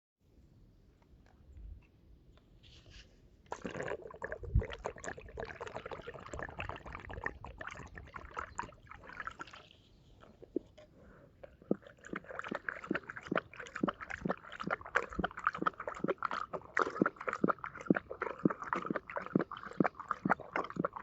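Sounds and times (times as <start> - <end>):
liquid trickling and splashing: 3.5 - 10.8, 11.4 - 21.0.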